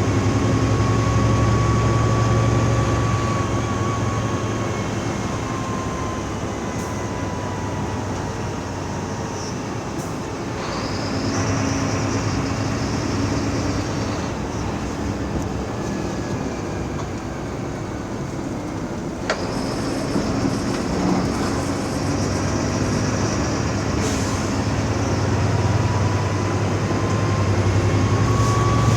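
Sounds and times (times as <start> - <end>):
bus engine running: 0.0 - 28.9.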